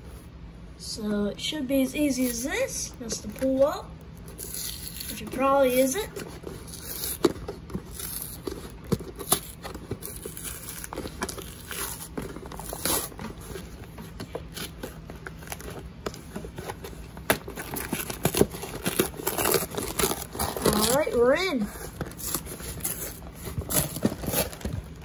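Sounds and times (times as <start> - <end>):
cardboard box tearing open: 4.3 - 25.0.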